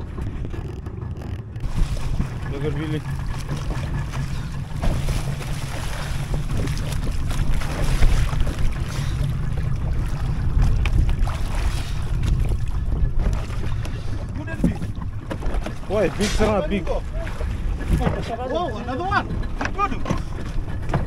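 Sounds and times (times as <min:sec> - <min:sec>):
sea water washing: 0:00.0 - 0:21.0
wind buffeting microphone: 0:00.0 - 0:21.0.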